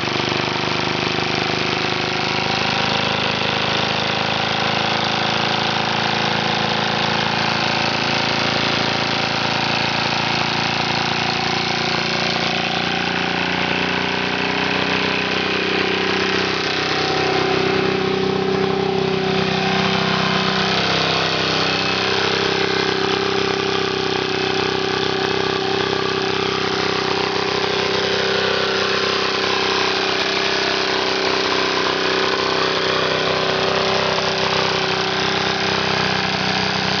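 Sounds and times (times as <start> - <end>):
model steam engine running fast: 0.0 - 37.0.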